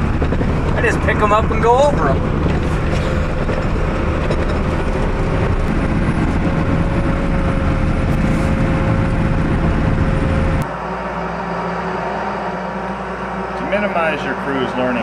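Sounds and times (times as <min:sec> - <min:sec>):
diesel engine running: 0:00.0 - 0:15.0
steady whine: 0:00.0 - 0:15.0.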